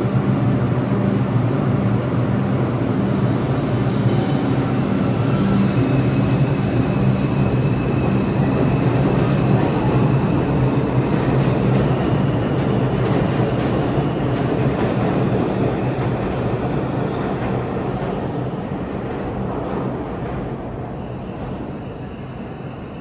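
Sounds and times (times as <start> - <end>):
subway train wheels rumbling on rails: 0.0 - 23.0.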